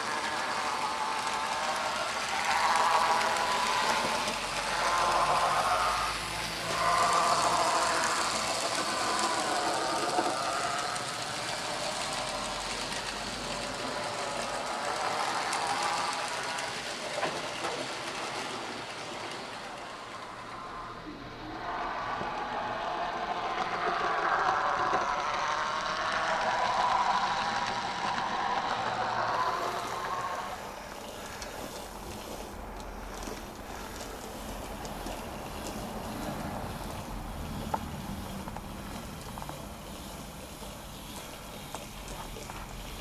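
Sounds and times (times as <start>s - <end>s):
model train motor whirr and rattle: 0.0s - 43.0s.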